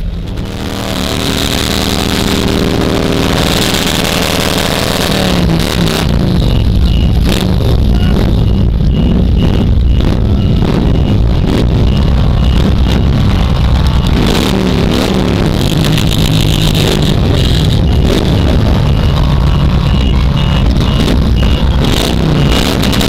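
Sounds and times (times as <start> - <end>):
motorcycle engines rumbling: 0.0 - 23.0.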